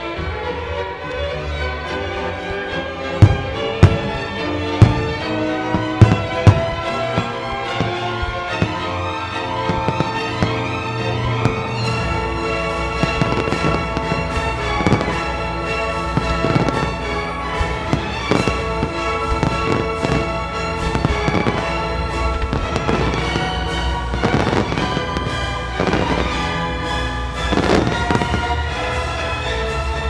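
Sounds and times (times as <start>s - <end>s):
firework bangs: 2.1s - 29.5s.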